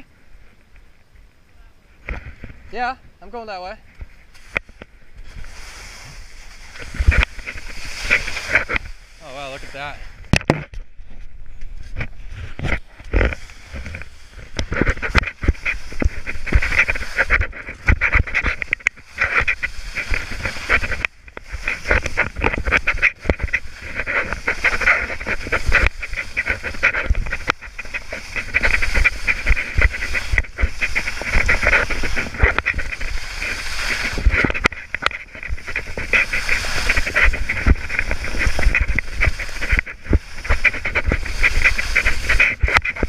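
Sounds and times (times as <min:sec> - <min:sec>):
wind rumbling on microphone: 0:00.0 - 0:43.0
skis scraping over snow: 0:02.4 - 0:10.2, 0:11.8 - 0:43.0.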